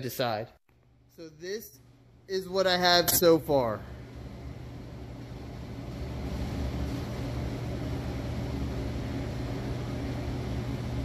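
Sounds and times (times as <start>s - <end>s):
machine hum: 0.7s - 11.0s.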